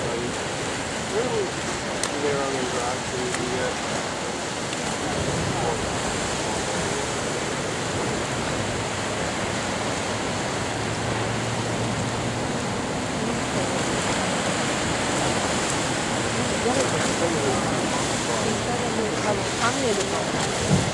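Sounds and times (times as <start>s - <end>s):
ocean waves and surf: 0.0s - 20.9s.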